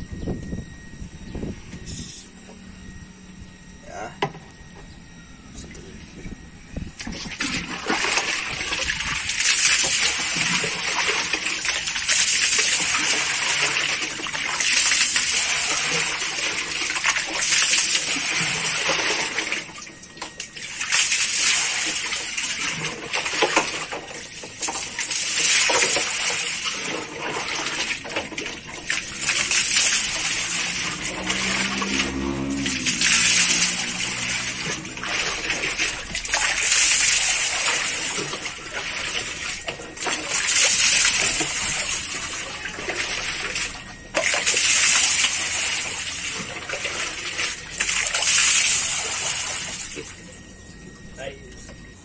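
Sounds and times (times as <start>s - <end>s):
water splashing in plastic drum: 7.0s - 50.2s.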